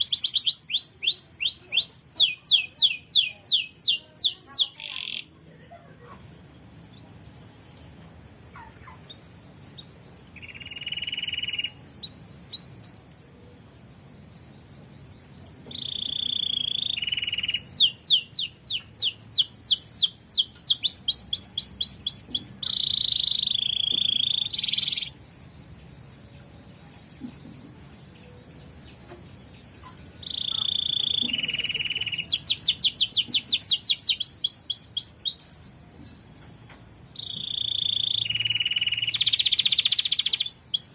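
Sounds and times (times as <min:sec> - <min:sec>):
canary singing trills: 0:00.0 - 0:05.4, 0:06.4 - 0:40.9.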